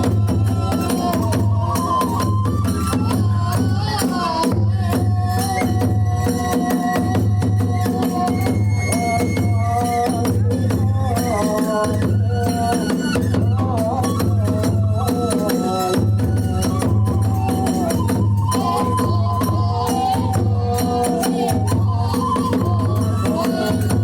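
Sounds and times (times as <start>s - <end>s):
drums beating steady rhythm: 0.0s - 24.0s
hand cymbals: 0.0s - 24.0s.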